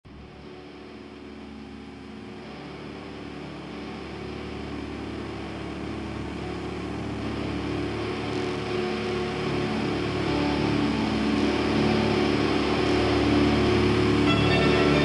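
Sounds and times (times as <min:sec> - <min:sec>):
low hum tones: 0:00.1 - 0:15.0.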